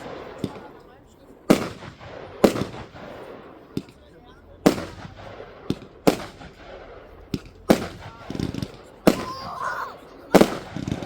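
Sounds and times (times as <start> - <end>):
small firework pops: 0.0 - 0.8, 1.4 - 4.1, 4.7 - 9.5, 10.2 - 11.0
firework bangs: 0.0 - 11.0.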